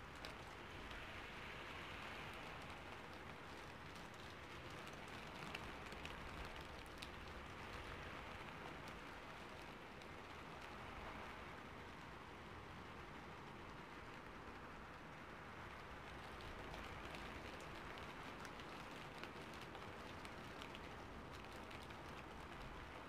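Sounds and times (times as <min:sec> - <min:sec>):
rain falling: 0:00.0 - 0:23.0
raindrop ticks: 0:00.0 - 0:23.0.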